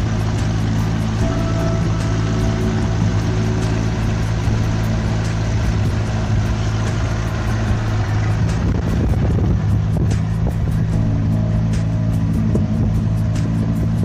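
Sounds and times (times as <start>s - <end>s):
boat engine humming: 0.0s - 14.0s
rushing water noise: 0.0s - 14.0s.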